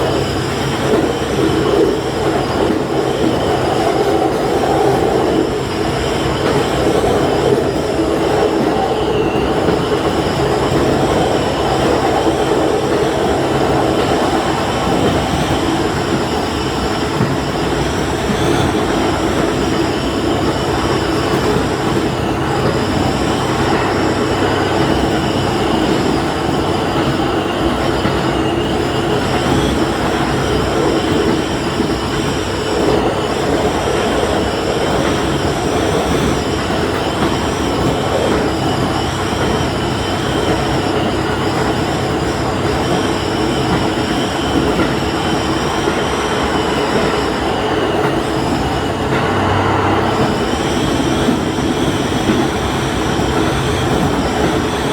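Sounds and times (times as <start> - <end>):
diesel engine drone: 0.0 - 54.9
train wheels on rails: 0.0 - 54.9.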